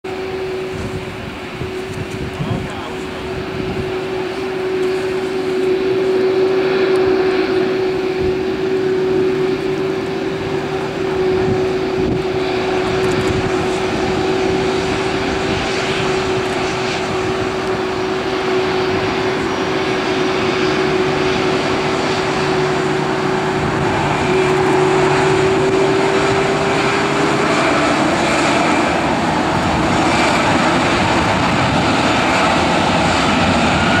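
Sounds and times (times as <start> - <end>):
jet engines idling: 0.1 - 34.0.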